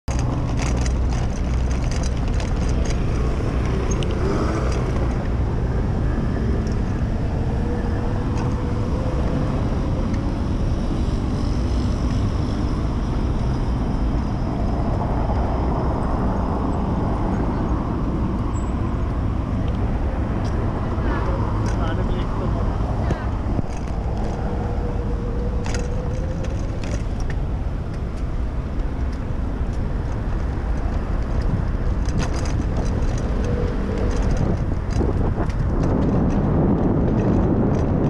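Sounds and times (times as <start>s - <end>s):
road traffic: 0.0s - 38.0s
wind rumble on microphone: 0.0s - 38.0s.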